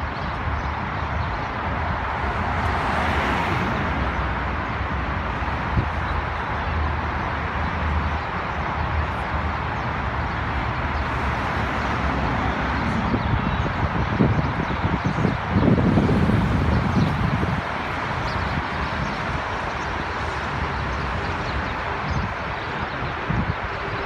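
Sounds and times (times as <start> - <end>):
road and engine noise: 0.0 - 24.0.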